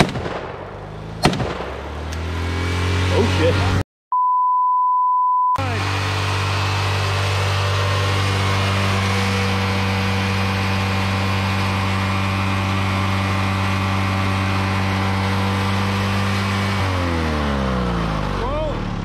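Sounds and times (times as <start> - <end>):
riding mower engine running: 0.0 - 3.8, 5.6 - 19.0.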